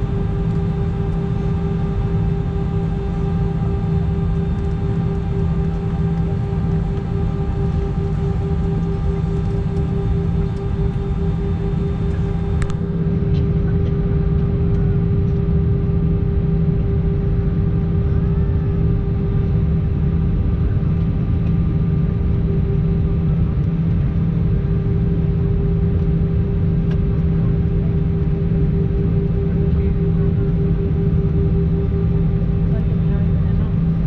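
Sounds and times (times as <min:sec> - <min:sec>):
aircraft cabin rumble: 0:00.0 - 0:34.0
steady hum: 0:00.0 - 0:34.0.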